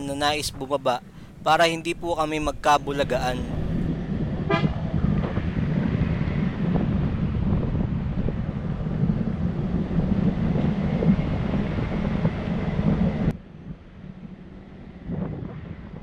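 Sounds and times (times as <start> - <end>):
car tyres and engine rumble: 0.0 - 16.0
wind buffeting: 0.0 - 16.0.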